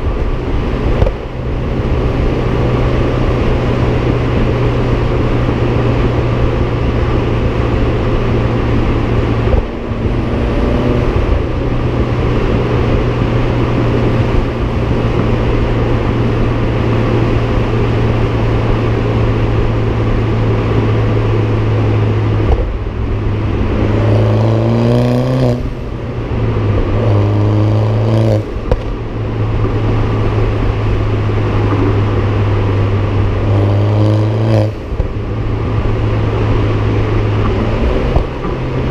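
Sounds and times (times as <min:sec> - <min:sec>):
car accelerating: 0:00.0 - 0:38.9
car exhaust droning: 0:00.0 - 0:38.9.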